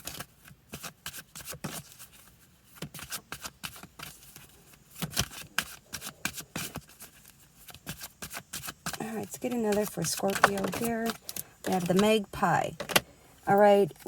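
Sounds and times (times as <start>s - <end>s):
cards shuffled by hand: 0.0s - 12.3s.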